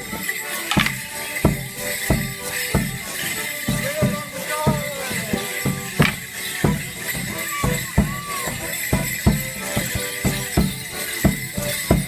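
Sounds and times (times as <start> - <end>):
band playing held notes: 0.0 - 12.0
heavy drum beat: 0.8 - 12.0.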